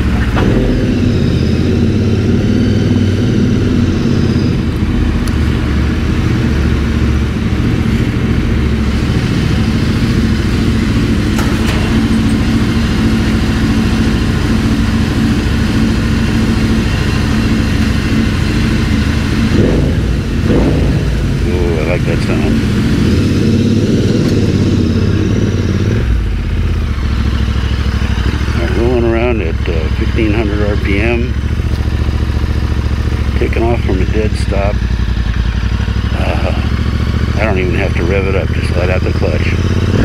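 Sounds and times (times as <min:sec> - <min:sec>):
motorcycle engine riding slowly: 0:00.0 - 0:40.0.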